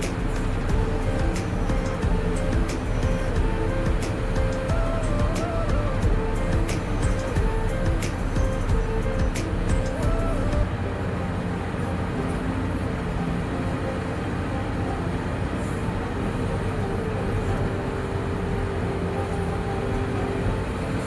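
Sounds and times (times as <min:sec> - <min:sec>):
excavator diesel engine running: 0:00.0 - 0:21.0
steady tone: 0:00.0 - 0:21.0.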